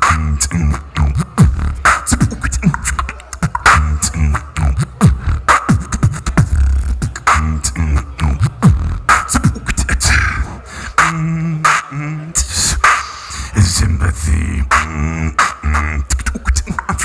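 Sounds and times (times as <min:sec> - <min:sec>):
beatboxing into microphone: 0:00.0 - 0:17.0.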